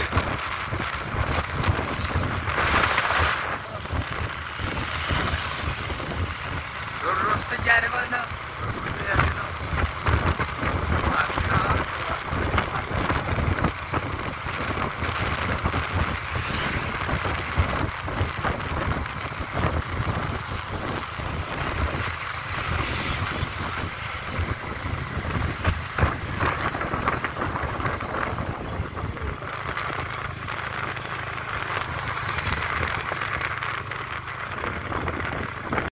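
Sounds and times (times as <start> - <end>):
steady outdoor hiss: 0.0 - 35.9
wind buffeting microphone: 0.0 - 35.9.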